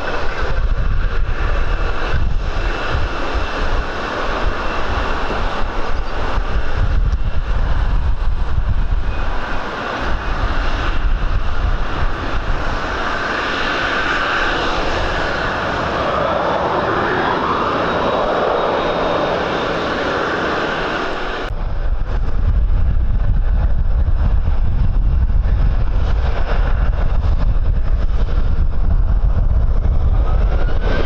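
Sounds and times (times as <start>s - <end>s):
airliner engines passing: 0.0s - 31.0s
wind buffeting microphone: 0.0s - 31.0s.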